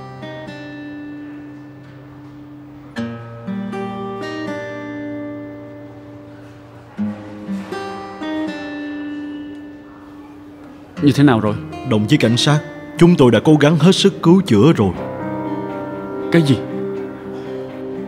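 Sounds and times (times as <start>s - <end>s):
slow plucked notes: 0.0s - 18.0s.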